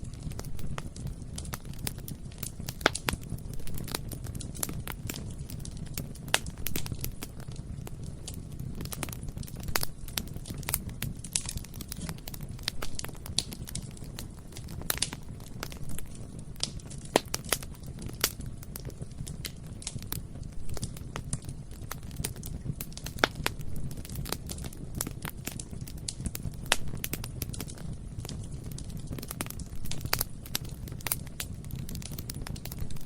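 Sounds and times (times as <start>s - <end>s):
burning wood crackling: 0.0s - 33.0s
fire rumbling: 0.0s - 33.0s.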